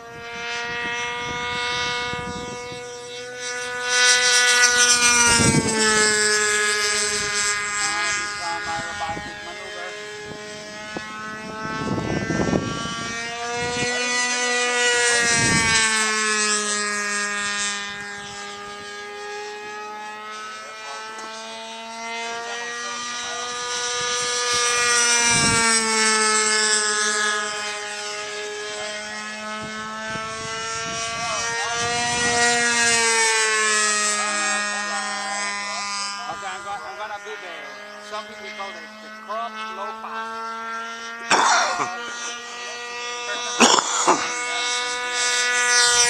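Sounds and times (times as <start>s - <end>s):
model airplane engine buzzing: 0.0s - 46.0s
steady low hum: 0.0s - 46.0s.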